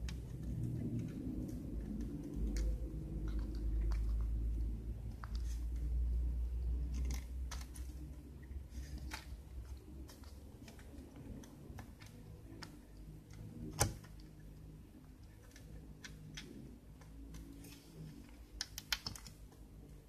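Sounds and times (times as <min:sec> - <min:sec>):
low hum: 0:00.0 - 0:18.6.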